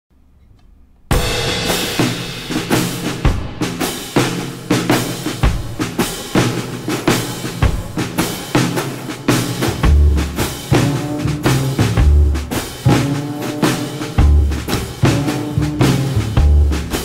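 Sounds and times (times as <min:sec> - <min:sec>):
music with steady drum beat: 0:01.1 - 0:17.0.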